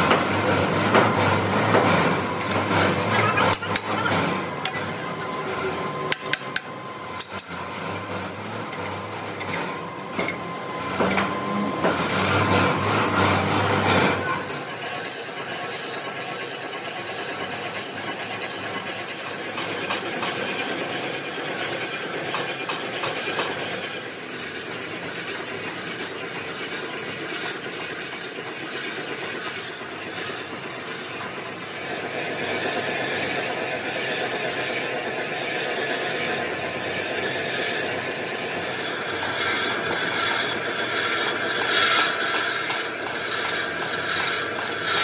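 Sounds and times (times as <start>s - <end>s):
lathe cutting metal with squeal: 0.0s - 45.0s.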